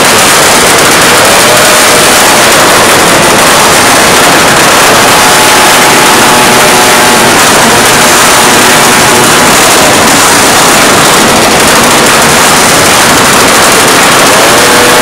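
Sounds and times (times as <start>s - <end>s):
motorcycle engines revving hard: 0.0s - 15.0s.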